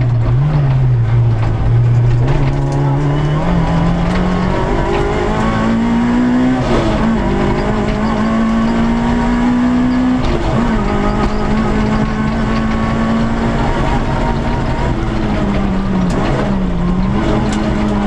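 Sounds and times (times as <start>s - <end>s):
rally car engine running hard: 0.0s - 18.0s
road and tyre noise: 0.0s - 18.0s.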